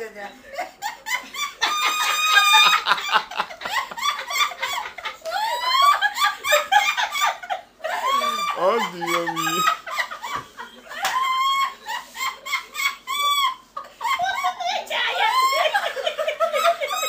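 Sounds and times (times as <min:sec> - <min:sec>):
woman laughing in high squeals: 0:00.6 - 0:17.0.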